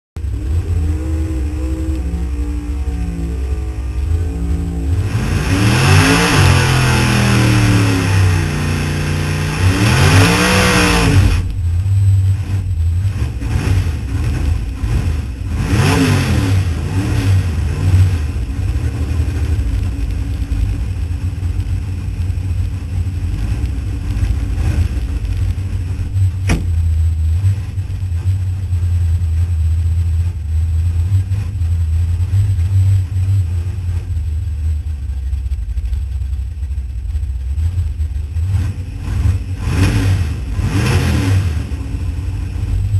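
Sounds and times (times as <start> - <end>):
car engine revving and idling: 0.2 - 42.9.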